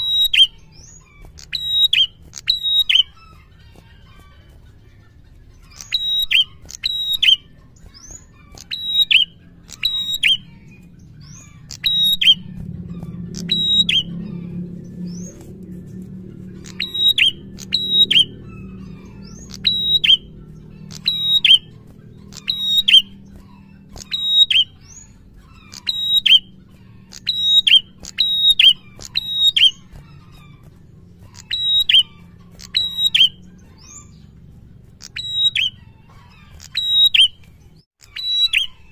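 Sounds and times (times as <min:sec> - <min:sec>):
bird singing sharp call notes: 0:00.0 - 0:04.7, 0:05.4 - 0:38.9
faint low hum: 0:00.0 - 0:37.8.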